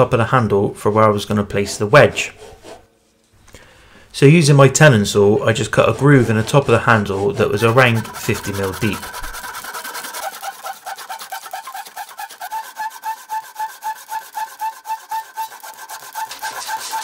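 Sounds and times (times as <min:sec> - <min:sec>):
saw rasping through wood: 0:00.5 - 0:03.0, 0:05.1 - 0:17.0.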